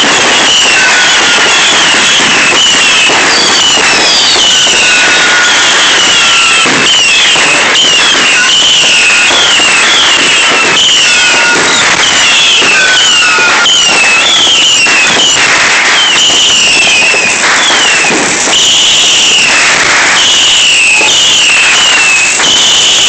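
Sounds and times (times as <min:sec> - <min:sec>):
falling firework whistle: 0:00.0 - 0:23.0
fireworks crackling and banging: 0:00.0 - 0:23.0.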